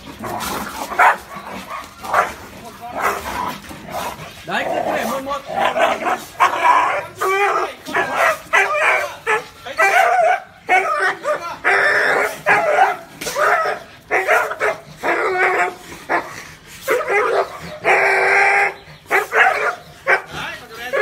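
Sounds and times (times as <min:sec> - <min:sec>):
dog barking and yelping: 0:00.0 - 0:21.0.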